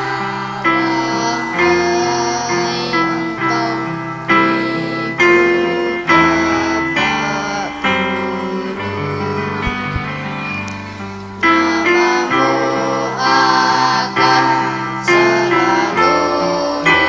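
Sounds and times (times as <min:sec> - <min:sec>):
electronic keyboard chords: 0:00.0 - 0:17.0.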